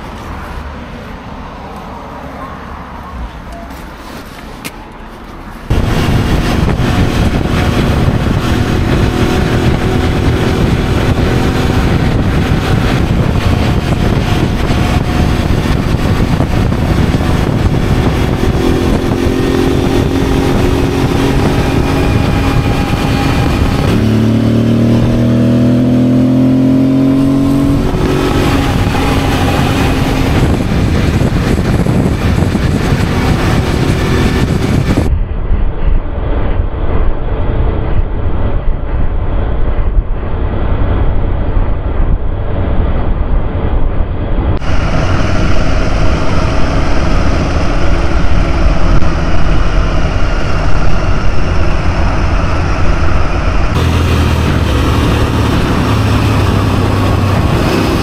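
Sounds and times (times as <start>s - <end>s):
motorcycle engine hum: 3.0s - 58.0s
wind rush over microphone: 5.6s - 58.0s.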